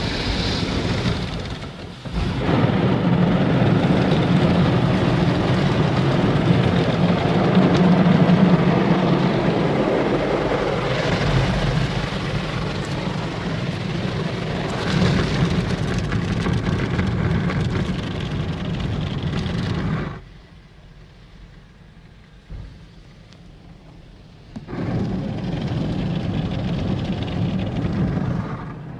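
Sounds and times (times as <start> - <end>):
car wash water spray: 0.0 - 20.6, 22.3 - 28.9.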